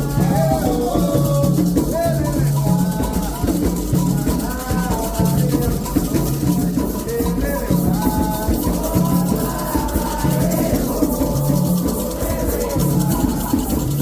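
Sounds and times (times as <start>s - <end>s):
shaker rattle: 0.0s - 14.0s
voices singing a chant: 0.0s - 14.0s.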